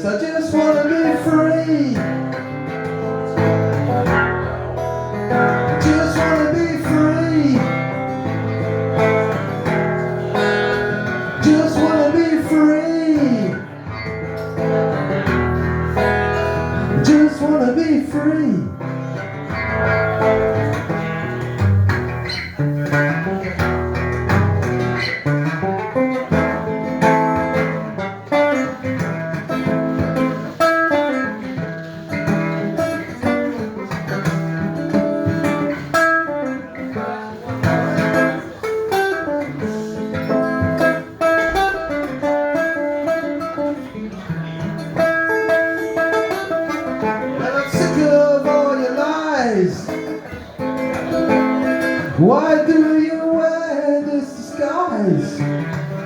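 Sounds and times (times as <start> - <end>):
guitar plucked and strummed: 0.0 - 56.0.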